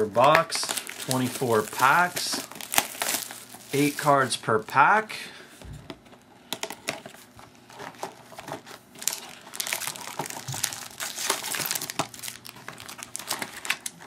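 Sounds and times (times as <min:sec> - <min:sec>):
foil card packs crinkling: 0:00.0 - 0:05.3, 0:06.5 - 0:14.0.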